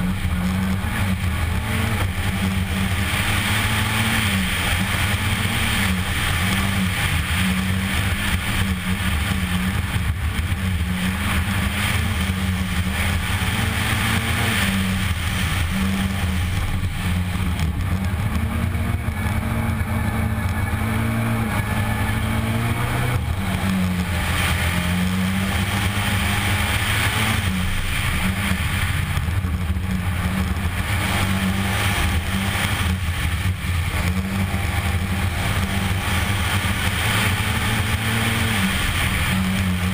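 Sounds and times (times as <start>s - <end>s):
rally car engine at high revs: 0.0s - 39.9s
tyres on loose gravel: 0.0s - 39.9s.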